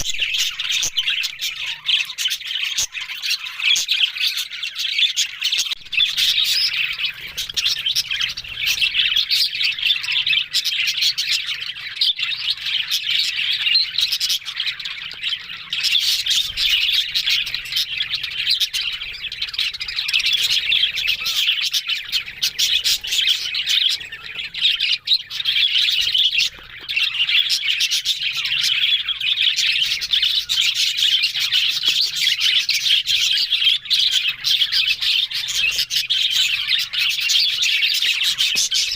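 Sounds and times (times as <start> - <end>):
budgerigars chattering and warbling: 0.0 - 38.9.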